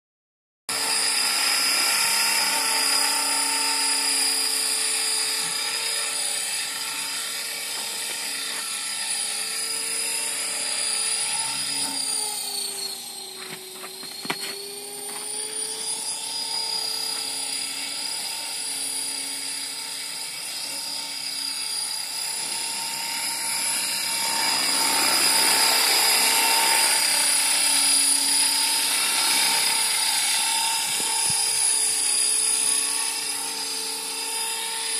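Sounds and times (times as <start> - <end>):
rc helicopter motor whine: 0.7 - 34.9.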